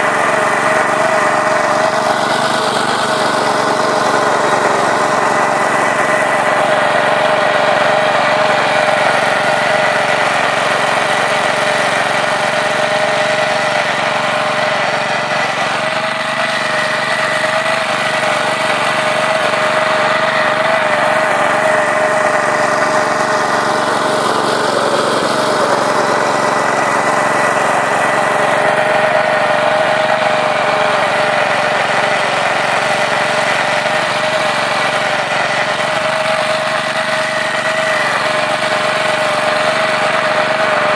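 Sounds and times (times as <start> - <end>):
cultivator engine running: 0.0 - 40.9
tines churning soil: 0.0 - 40.9.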